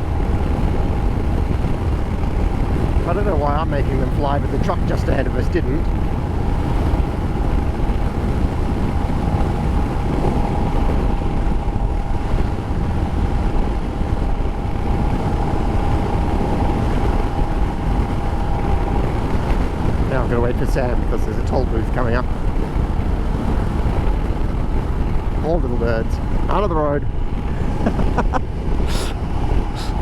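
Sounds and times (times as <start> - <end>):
faint steady whine: 0.0 - 30.0
motorcycle engine drone: 0.0 - 30.0
wind rushing on microphone: 0.0 - 30.0.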